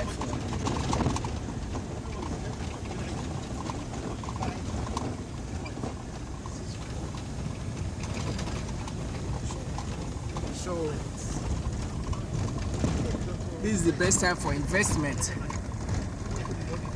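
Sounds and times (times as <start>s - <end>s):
vehicle engine and road noise: 0.0s - 16.9s.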